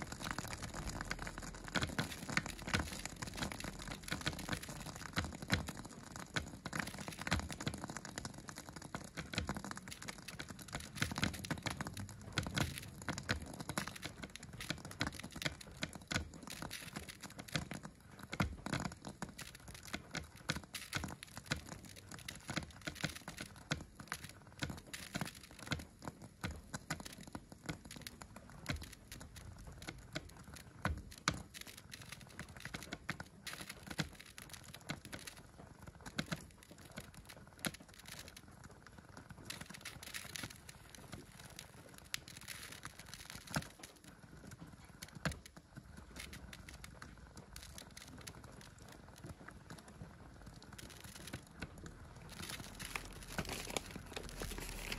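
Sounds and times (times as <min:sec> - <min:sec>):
egg sizzling in a frying pan: 0:00.0 - 0:54.9.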